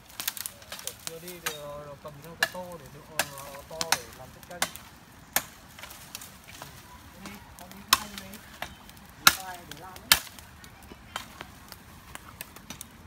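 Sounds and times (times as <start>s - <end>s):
dry branches snapping: 0.0s - 13.0s
twigs rustling: 0.0s - 13.0s.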